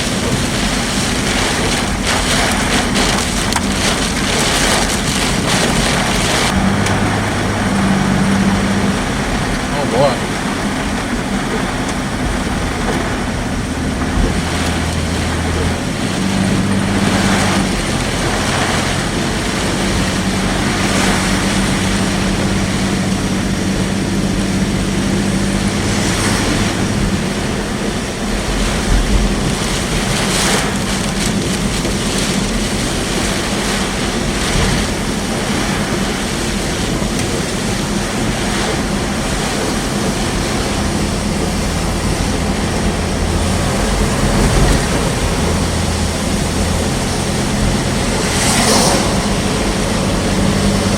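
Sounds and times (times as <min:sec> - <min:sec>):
car hum: 0:00.0 - 0:50.9
wind-driven rain on vehicle: 0:00.0 - 0:50.9.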